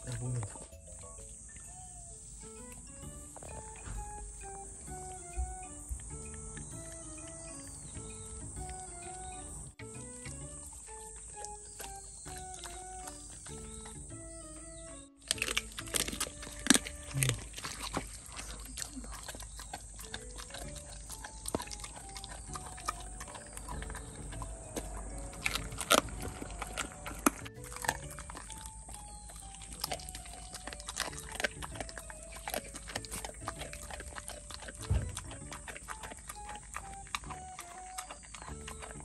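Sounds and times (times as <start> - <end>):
light background melody: 0.0 - 39.0
pet crunching bones: 0.0 - 39.0.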